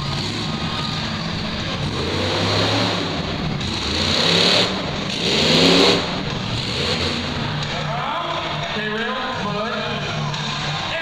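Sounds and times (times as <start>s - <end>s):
monster truck engine revving: 0.0s - 10.9s.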